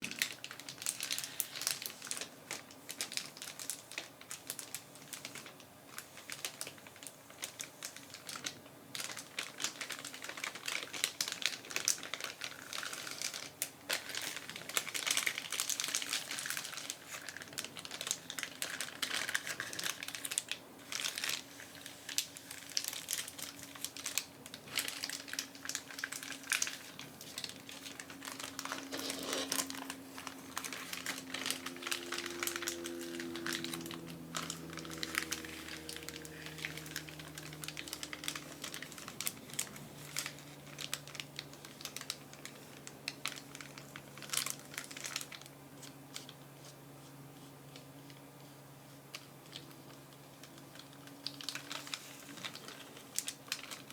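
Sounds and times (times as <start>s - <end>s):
foil package crinkling: 0.0s - 46.8s, 47.7s - 53.9s.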